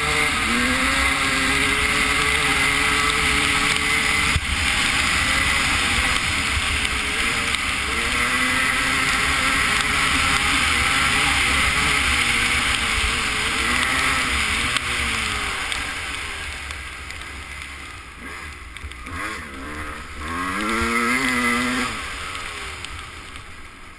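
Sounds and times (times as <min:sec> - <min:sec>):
motocross bike engine revving: 0:00.0 - 0:23.9.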